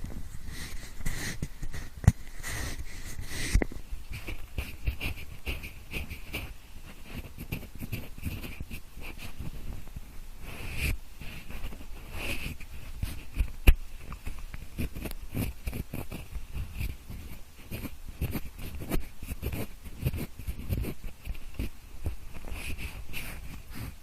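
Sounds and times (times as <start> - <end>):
pencil scratching microphone: 0.0 - 9.8, 10.4 - 24.0.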